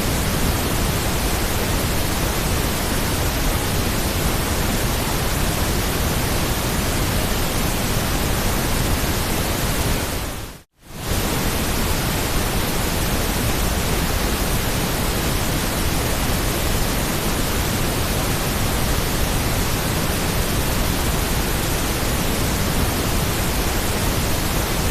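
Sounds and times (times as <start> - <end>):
white noise hiss: 0.0 - 24.9.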